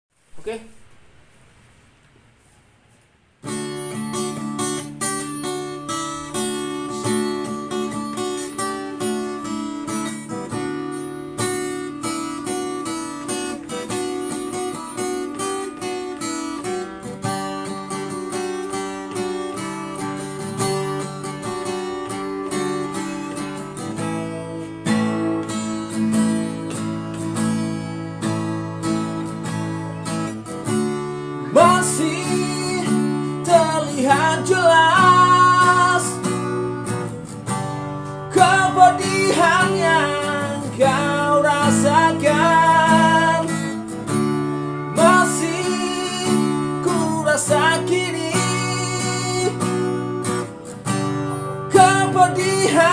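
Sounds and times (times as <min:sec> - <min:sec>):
strummed acoustic guitar chords: 0:03.4 - 0:52.9.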